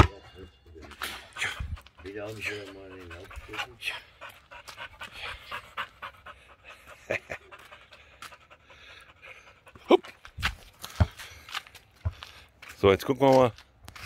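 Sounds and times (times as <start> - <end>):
dog panting: 0.8 - 12.3.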